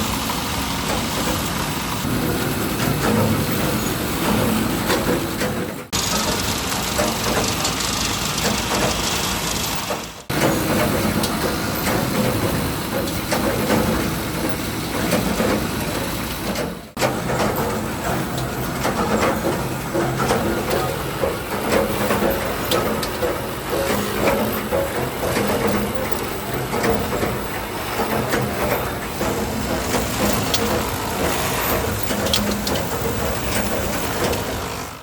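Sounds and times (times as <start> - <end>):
workshop machinery rumble: 0.0 - 35.0.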